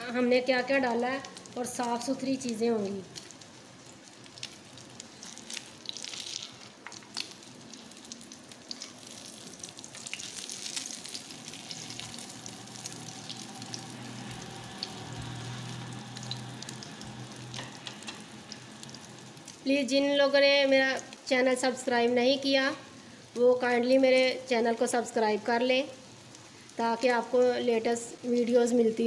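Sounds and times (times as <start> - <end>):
kebabs sizzling in oil: 0.0 - 29.0.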